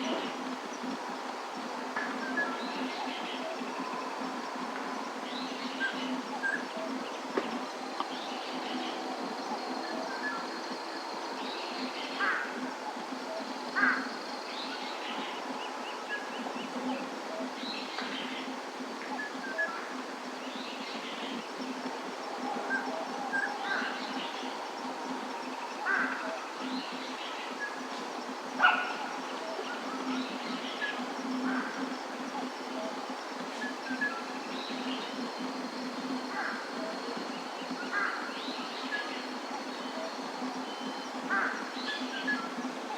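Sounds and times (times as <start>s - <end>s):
outdoor background hiss: 0.0s - 42.9s.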